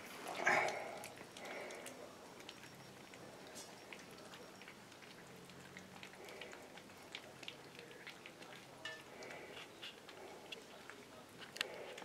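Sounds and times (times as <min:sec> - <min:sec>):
puppies lapping and chewing: 0:00.0 - 0:12.0.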